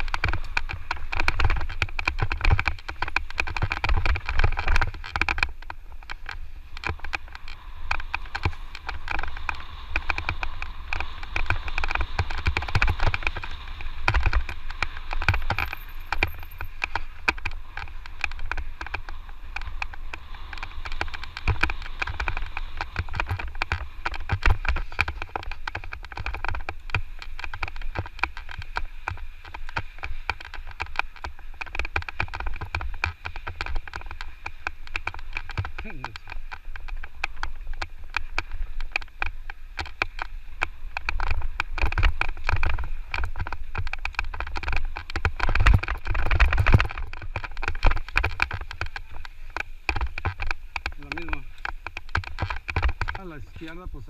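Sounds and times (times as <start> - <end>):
bike rattling: 0.0 - 54.0
tyres crunching over dirt: 0.0 - 54.0
wind on microphone: 0.0 - 54.0.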